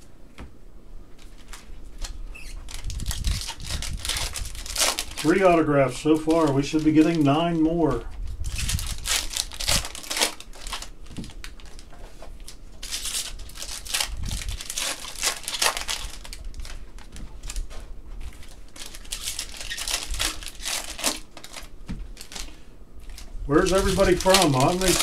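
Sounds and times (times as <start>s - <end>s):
plastic wrappers crinkling and tearing: 1.2s - 25.0s.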